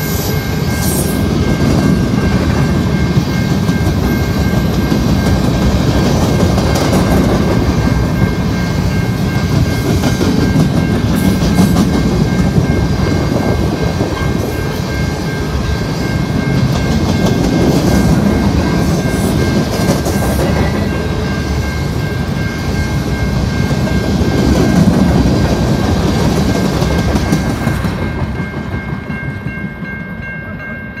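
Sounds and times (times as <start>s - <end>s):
high ringing tone: 0.0s - 25.1s
train wheels rumbling on rail: 0.0s - 31.0s
wheels clacking over rail joints: 1.6s - 30.0s.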